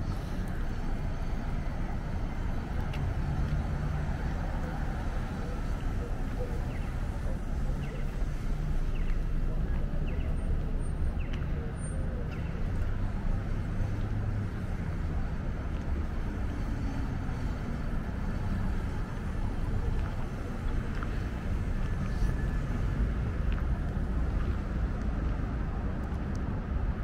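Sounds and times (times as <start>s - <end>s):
passing vehicles rumbling: 0.0s - 27.0s
urban hum: 0.0s - 27.0s.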